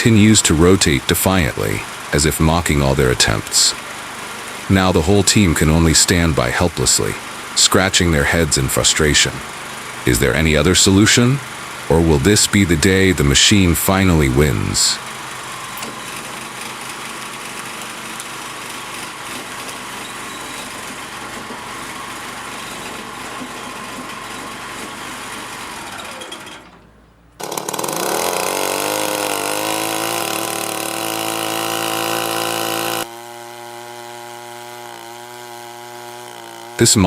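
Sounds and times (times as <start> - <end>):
engine whine: 0.0 - 37.0
wood-processing machinery grinding: 0.0 - 37.0.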